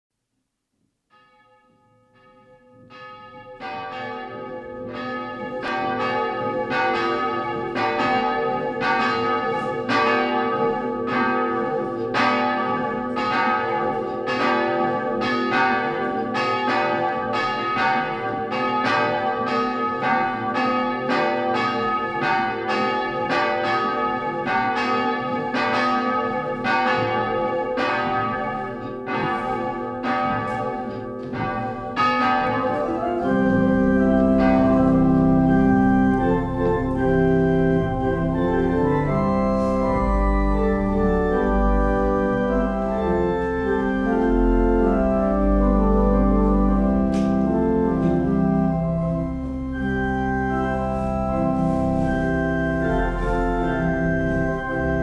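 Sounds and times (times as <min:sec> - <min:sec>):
church bells ringing: 0:01.1 - 0:55.0.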